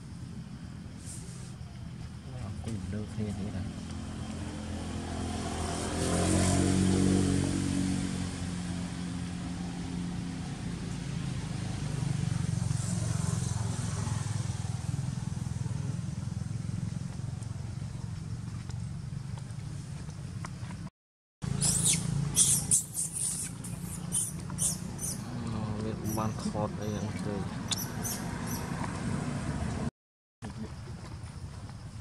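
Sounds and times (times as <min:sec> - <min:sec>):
vehicles passing on road: 0:00.0 - 0:29.9.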